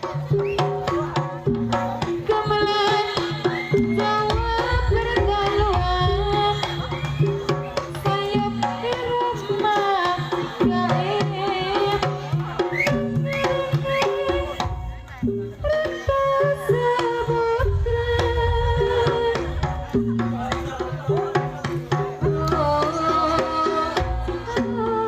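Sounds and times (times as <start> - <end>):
hand drums busy rhythm: 0.0 - 25.0.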